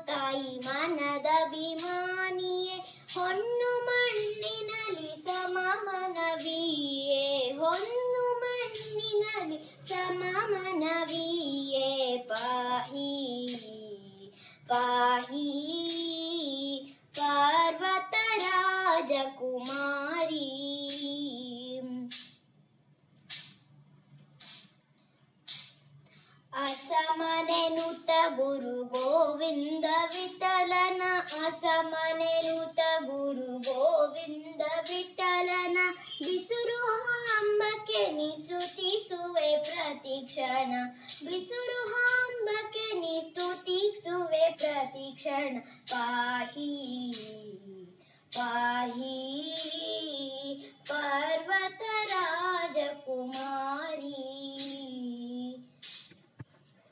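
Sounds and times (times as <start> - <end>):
girl singing: 0.0 - 22.4, 24.4 - 24.8, 25.5 - 25.8, 26.5 - 56.3.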